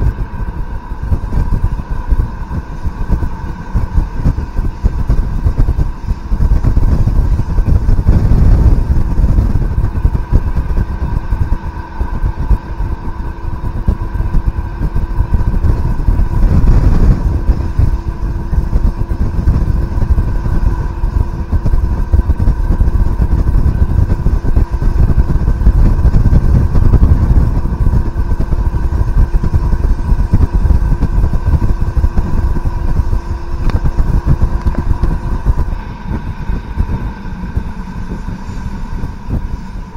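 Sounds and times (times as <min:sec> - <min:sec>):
diesel engine drone: 0:00.0 - 0:39.9
wheels rumbling on track: 0:00.0 - 0:39.9
whining tones: 0:00.0 - 0:39.9.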